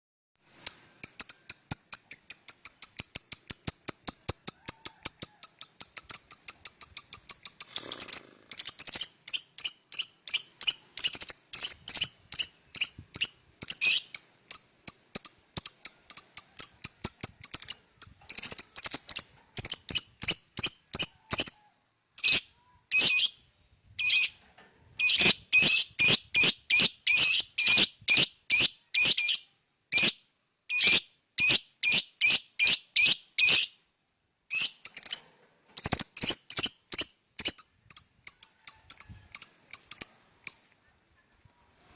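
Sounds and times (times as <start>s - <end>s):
lovebird chirping shrilly: 0.6s - 21.6s, 22.2s - 23.4s, 24.0s - 24.4s, 25.0s - 33.8s, 34.5s - 35.2s, 35.8s - 40.6s.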